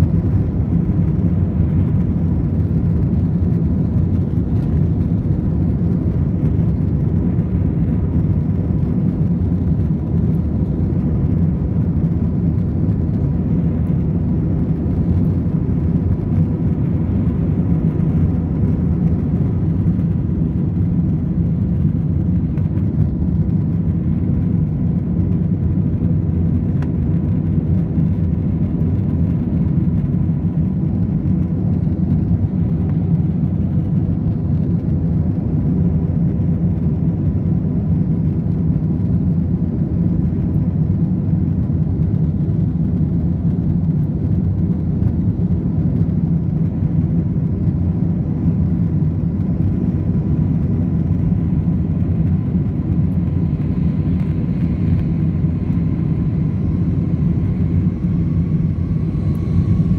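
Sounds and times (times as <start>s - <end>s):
faint steady hum: 0.0s - 59.9s
jet engines roaring: 0.0s - 59.9s.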